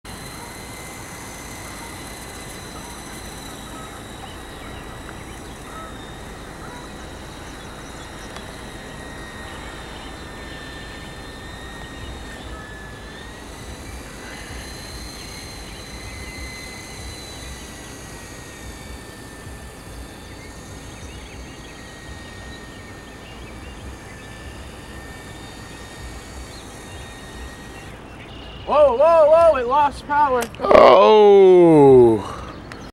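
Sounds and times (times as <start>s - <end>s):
toy helicopter motor whine: 0.0s - 32.9s.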